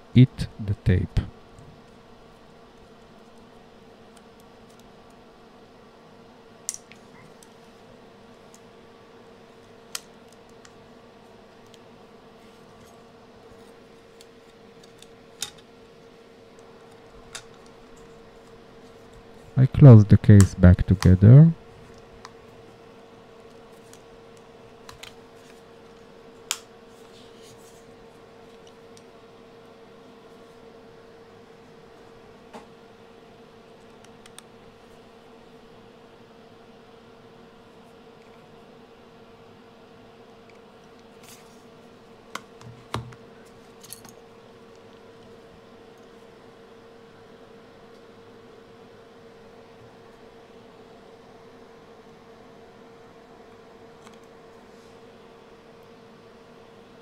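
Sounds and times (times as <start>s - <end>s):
faint steady hum with hiss: 0.0s - 57.0s.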